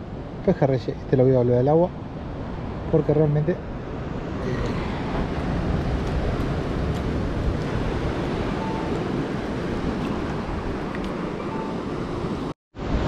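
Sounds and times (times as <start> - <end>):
wind buffeting microphone: 0.0 - 13.0
ocean surf washing onto rocks: 2.0 - 13.0.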